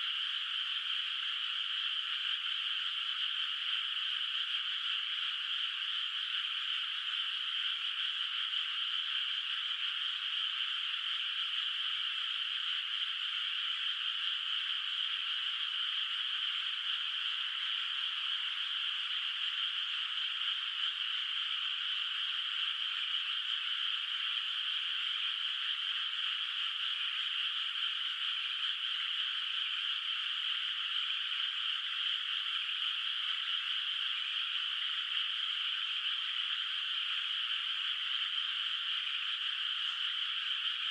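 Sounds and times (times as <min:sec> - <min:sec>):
chorus of frogs calling: 0:00.0 - 0:40.9.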